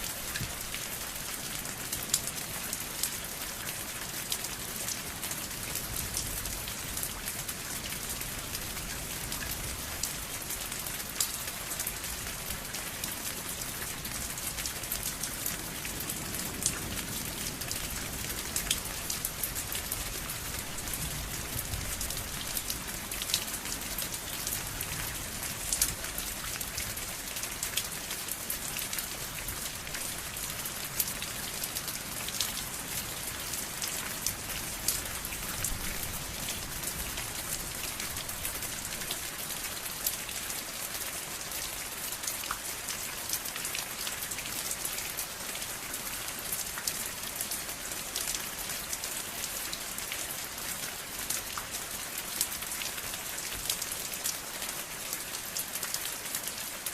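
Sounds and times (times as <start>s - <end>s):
rain pattering on a surface: 0.0s - 56.9s.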